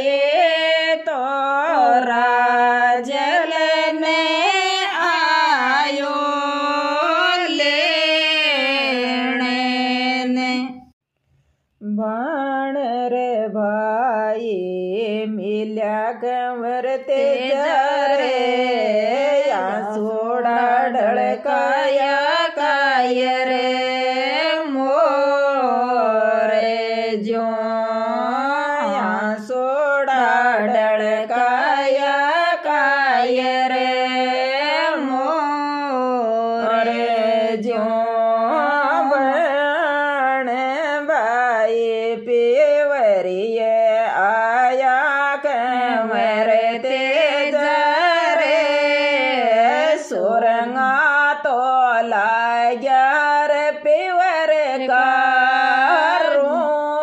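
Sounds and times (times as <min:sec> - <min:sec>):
woman singing folk song: 0:00.0 - 0:10.9, 0:11.8 - 0:57.0.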